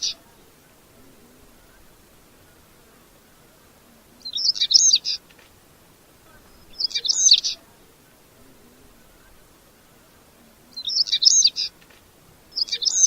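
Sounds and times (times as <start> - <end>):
bird song scratchy warble: 0.0 - 13.0.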